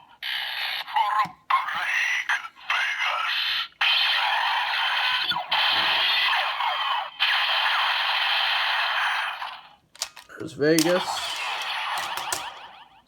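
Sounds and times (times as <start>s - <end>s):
toy voice lines: 0.2s - 8.1s, 10.3s - 13.0s
toy electronic sound effects: 0.2s - 13.0s.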